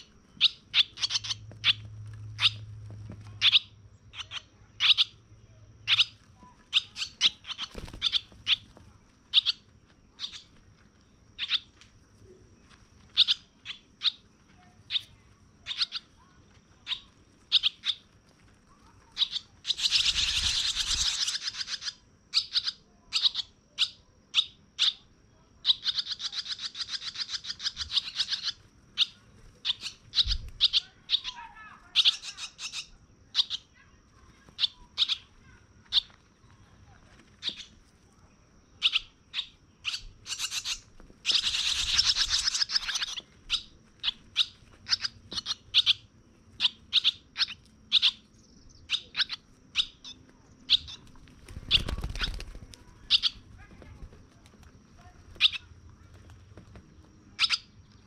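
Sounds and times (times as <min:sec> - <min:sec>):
baby birds chirping: 0:00.0 - 0:58.0.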